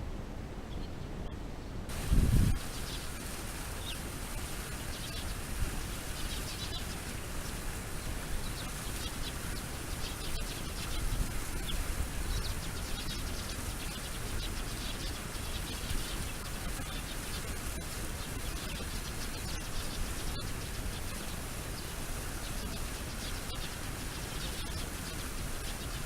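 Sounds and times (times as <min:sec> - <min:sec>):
background noise: 0:00.0 - 0:26.0
small birds chirping: 0:00.7 - 0:26.0.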